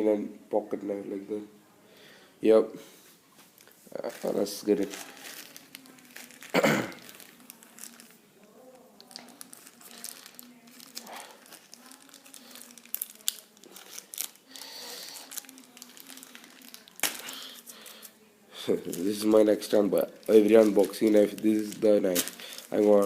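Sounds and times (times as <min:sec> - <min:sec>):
packaging crinkling and tearing: 0:03.5 - 0:18.1, 0:18.8 - 0:23.0.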